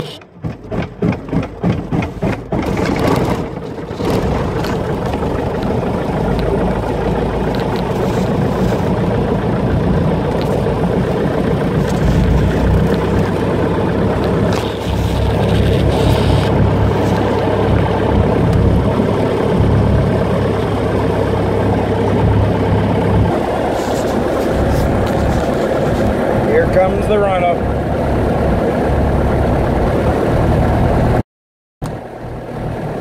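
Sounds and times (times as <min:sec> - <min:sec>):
aircraft piston engine starting: 0:00.0 - 0:31.2.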